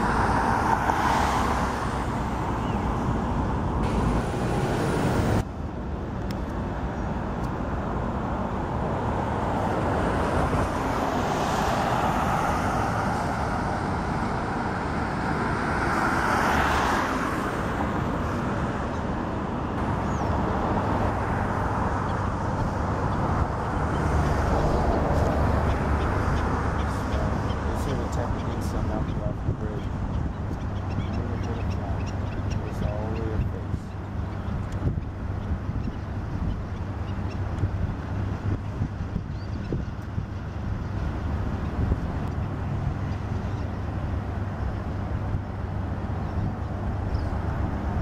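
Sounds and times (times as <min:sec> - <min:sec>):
road traffic rumble and hiss: 0:00.0 - 0:48.0.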